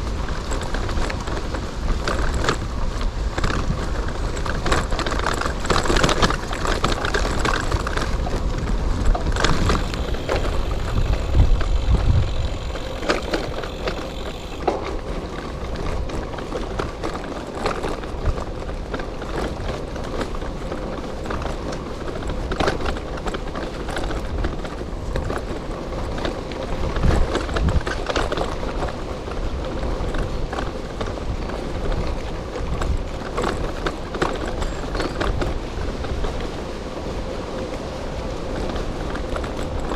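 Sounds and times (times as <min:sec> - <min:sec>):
bike tyres crunching on gravel: 0:00.0 - 0:35.9
bike rattling and knocking: 0:00.0 - 0:39.9
wind rumbling on microphone: 0:00.0 - 0:39.9.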